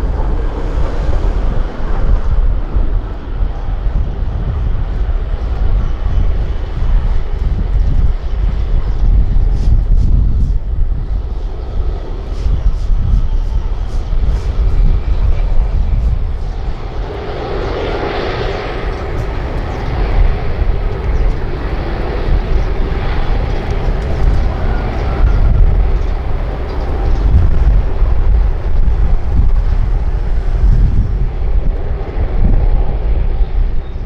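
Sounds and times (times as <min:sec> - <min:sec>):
heavy low rumble: 0:00.0 - 0:34.0
jet engines roaring: 0:00.0 - 0:34.0.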